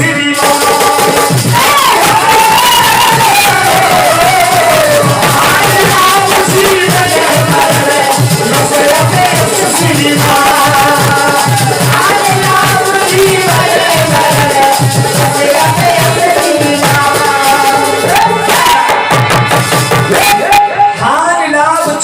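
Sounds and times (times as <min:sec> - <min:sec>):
hand drum beat: 0:00.0 - 0:20.9.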